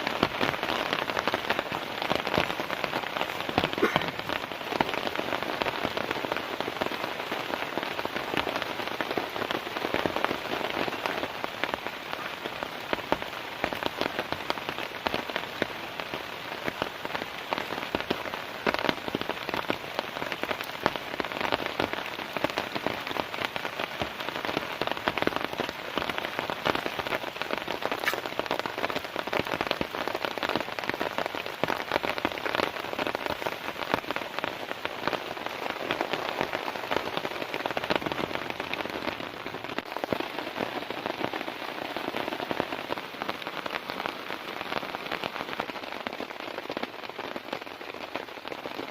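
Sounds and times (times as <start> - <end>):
heavy rain on a tent: 0.0 - 48.9.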